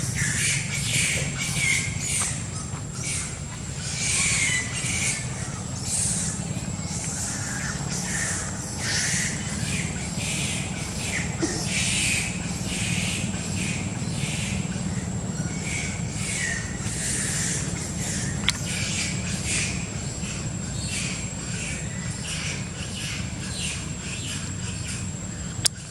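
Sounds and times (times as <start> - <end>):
monkeys squawking: 0.0 - 25.6
steady low hum: 0.0 - 25.9.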